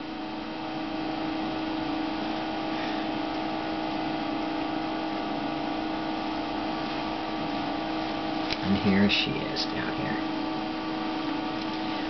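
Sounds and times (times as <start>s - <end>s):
electrical hum: 0.0s - 12.0s
fan-like hiss: 0.0s - 12.0s.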